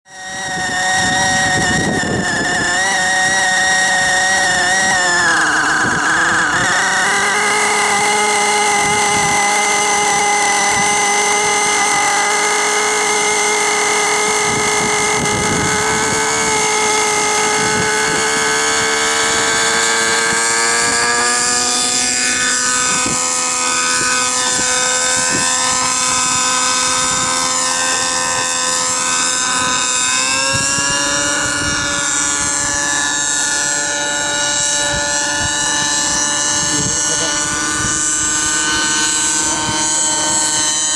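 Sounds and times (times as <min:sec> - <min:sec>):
model helicopter engine whine: 0:00.0 - 0:40.9.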